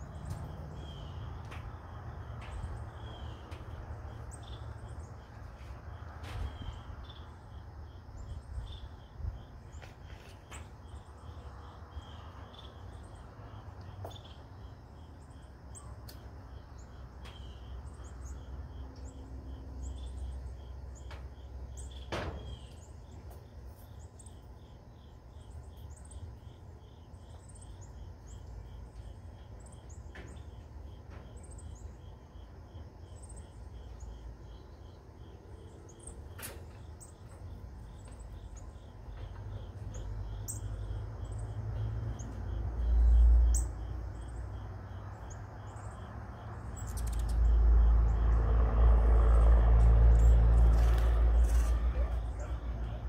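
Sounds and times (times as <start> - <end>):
bird and insect chirps: 0.0 - 53.0.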